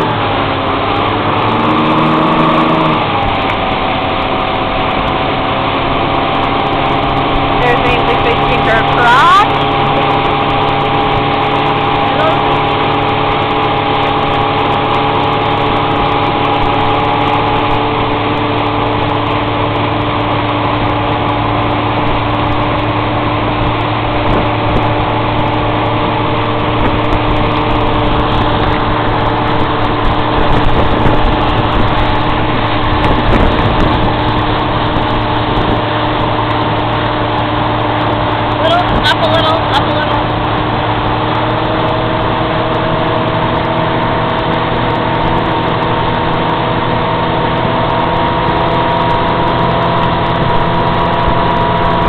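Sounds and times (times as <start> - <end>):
boat engine droning: 0.0 - 52.0
rushing water: 0.0 - 52.0
wind: 0.0 - 52.0.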